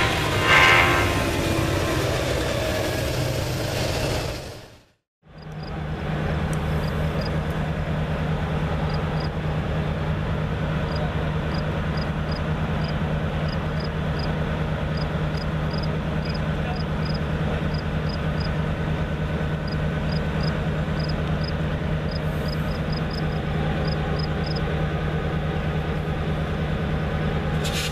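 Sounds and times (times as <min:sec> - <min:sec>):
diesel locomotive idling drone: 0:00.0 - 0:27.9
freight train rumbling past: 0:00.0 - 0:27.9.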